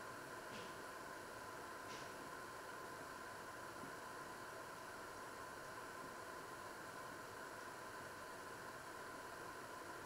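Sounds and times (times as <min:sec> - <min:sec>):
faint hiss with slight hum: 0:00.0 - 0:10.0.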